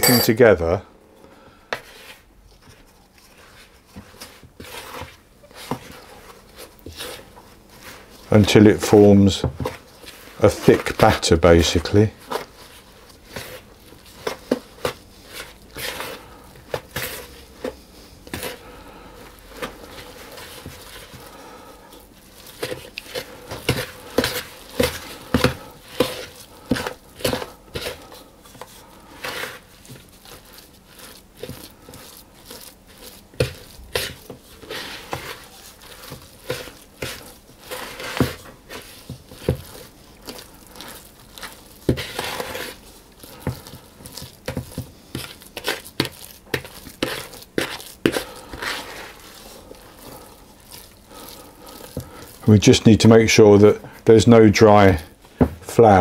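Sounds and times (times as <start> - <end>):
wooden spoon scraping bowl: 1.7 - 56.0.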